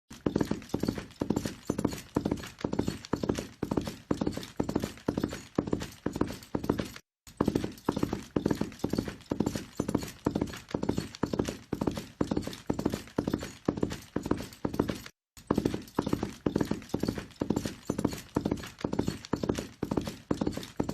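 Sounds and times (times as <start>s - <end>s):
horse hooves galloping: 0.1s - 20.9s.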